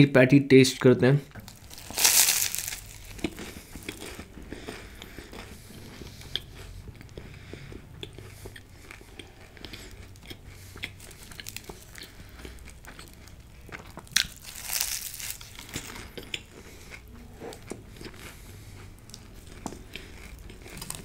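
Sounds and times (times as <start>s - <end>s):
chewing crisp pastry: 1.4s - 21.0s.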